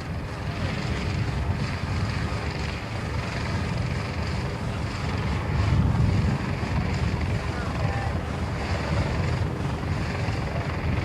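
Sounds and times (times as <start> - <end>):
low engine rumble: 0.0 - 11.0
wind buffeting microphone: 0.0 - 11.0.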